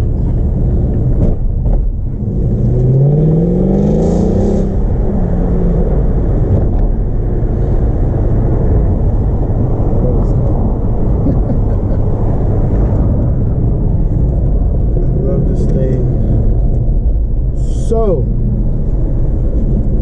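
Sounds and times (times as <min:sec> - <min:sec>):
car engine and exhaust accelerating: 0:00.0 - 0:20.0.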